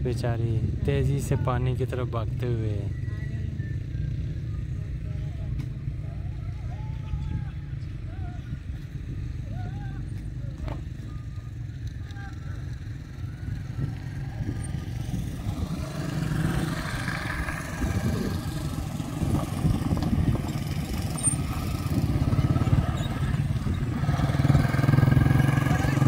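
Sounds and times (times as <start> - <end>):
motorcycle engine rumbling: 0.0 - 26.0
car engine rumbling: 4.4 - 26.0.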